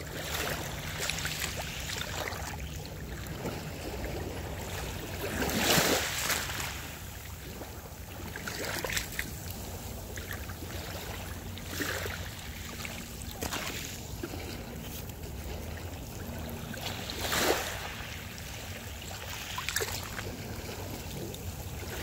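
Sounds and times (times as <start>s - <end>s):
small waves washing over rocks: 0.0s - 22.0s.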